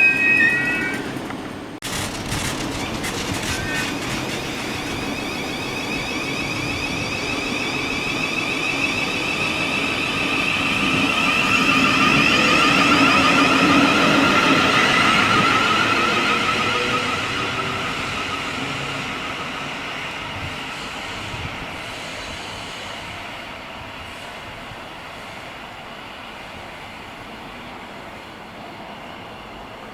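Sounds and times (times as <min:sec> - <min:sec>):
electric train whining: 0:00.0 - 0:24.6.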